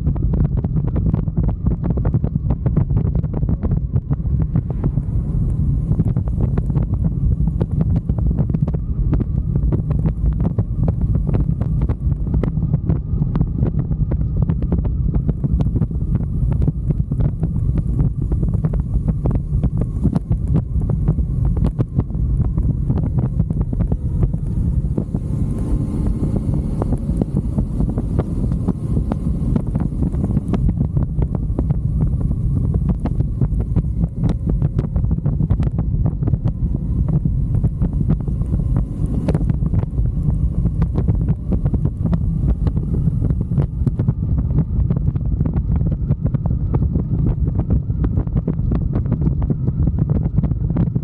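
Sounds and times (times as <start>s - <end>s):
motorcycle road and engine noise: 0.0s - 51.0s
wind buffeting microphone: 0.0s - 51.0s.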